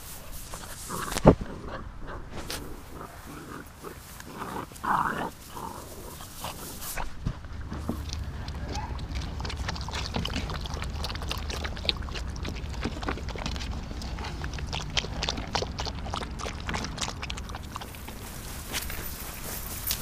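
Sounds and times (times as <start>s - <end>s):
steady low rumble: 0.0s - 20.0s
puppies' paws splashing: 2.4s - 20.0s.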